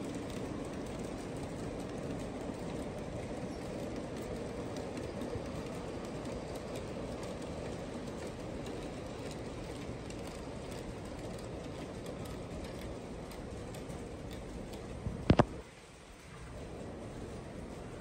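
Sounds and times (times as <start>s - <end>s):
model train wheels rolling on rails: 0.0s - 18.0s.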